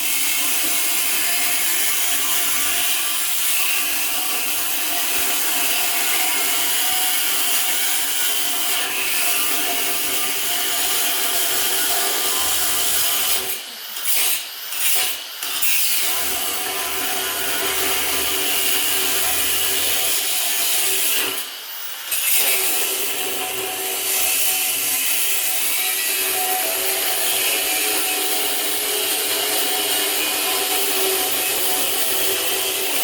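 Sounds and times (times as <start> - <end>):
angle grinder cutting steel: 0.0 - 33.0.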